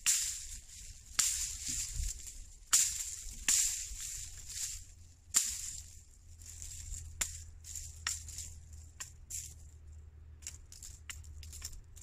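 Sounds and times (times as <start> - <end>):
blade striking dry brush: 0.0 - 9.8
branches and leaves rattling: 0.0 - 12.0.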